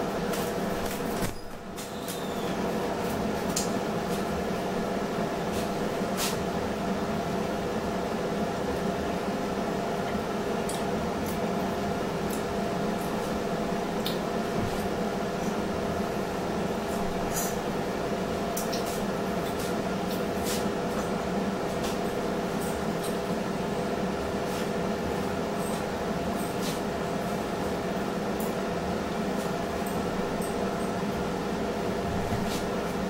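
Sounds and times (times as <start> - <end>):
range hood fan humming: 0.0 - 33.0.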